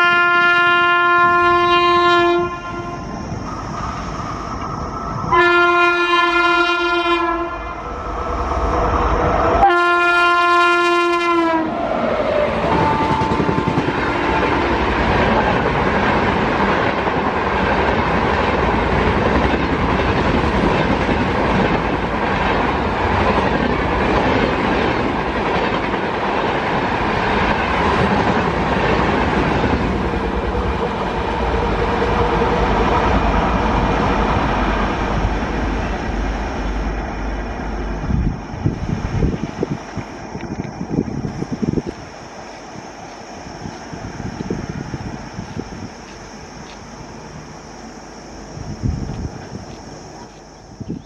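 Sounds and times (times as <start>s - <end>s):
train passing at high speed: 0.0s - 51.0s.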